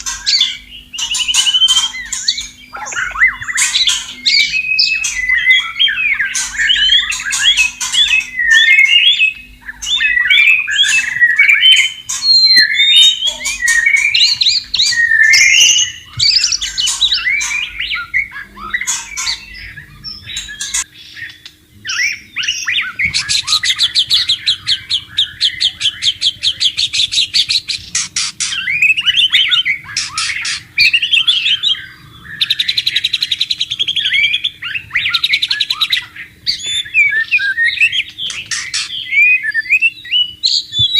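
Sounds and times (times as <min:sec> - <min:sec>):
bird buzzing trill: 0:00.0 - 0:40.9
bird singing whistled phrases: 0:00.0 - 0:40.9.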